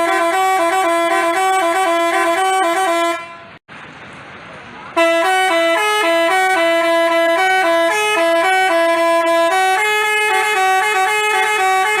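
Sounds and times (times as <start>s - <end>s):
bus horn playing melody: 0.0s - 3.6s, 5.0s - 12.0s.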